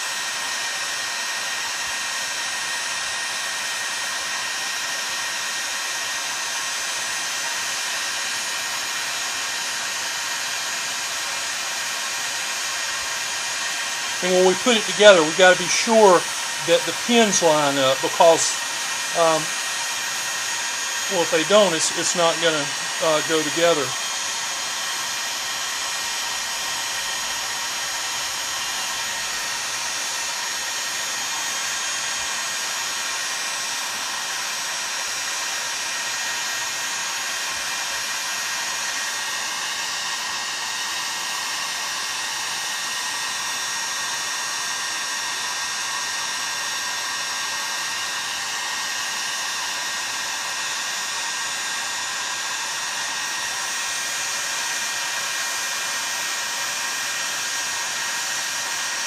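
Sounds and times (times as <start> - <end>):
heat gun fan whining: 0.0 - 59.0.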